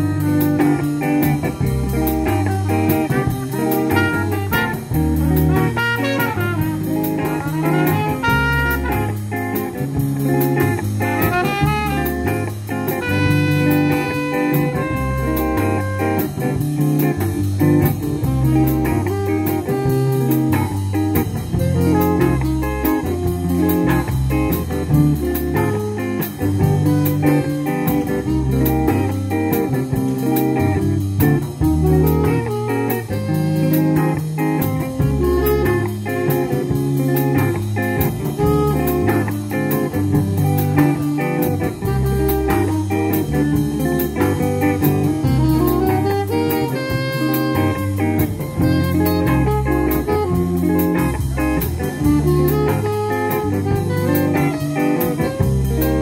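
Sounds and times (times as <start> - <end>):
drum kit: 0.0 - 56.0
electric bass line: 0.0 - 56.0
electric guitar: 0.0 - 56.0
saxophone: 0.0 - 56.0.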